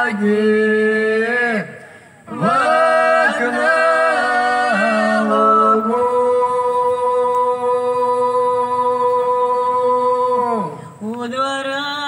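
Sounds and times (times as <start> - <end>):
person singing unaccompanied: 2.3 - 12.0.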